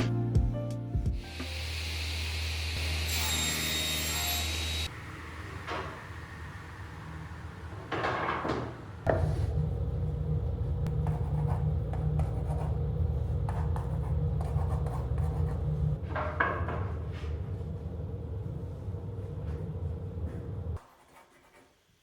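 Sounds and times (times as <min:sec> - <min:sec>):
workshop machine humming: 0:01.2 - 0:20.8.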